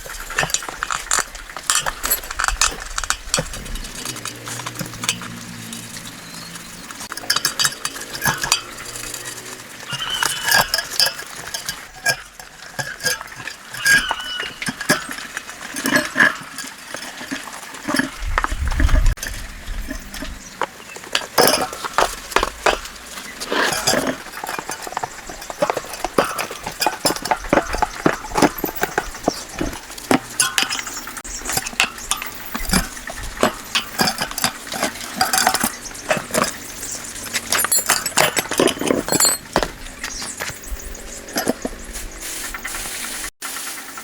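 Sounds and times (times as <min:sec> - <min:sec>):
hard objects clinking and knocking: 0:00.0 - 0:42.2.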